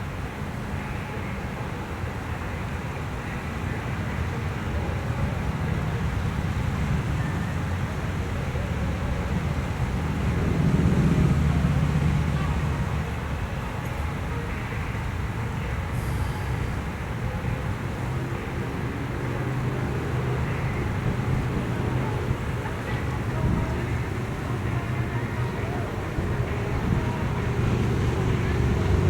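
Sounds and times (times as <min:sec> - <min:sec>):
road traffic rumbling: 0:00.0 - 0:29.0
vehicle passing: 0:04.9 - 0:29.0.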